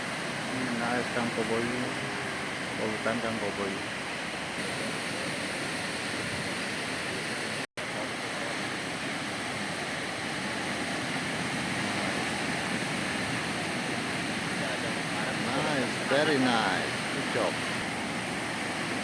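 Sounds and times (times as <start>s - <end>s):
ocean surf breaking on beach: 0.0s - 19.0s.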